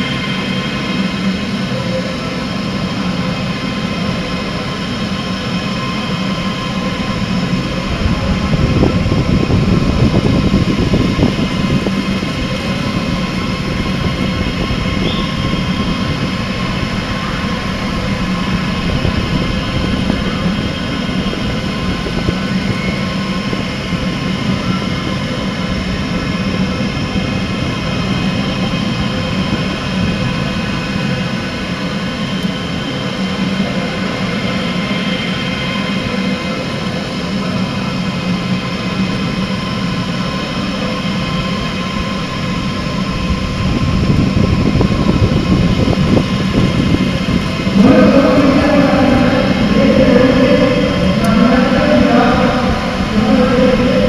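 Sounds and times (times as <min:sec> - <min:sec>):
motors and fans whining: 0:00.0 - 0:54.0.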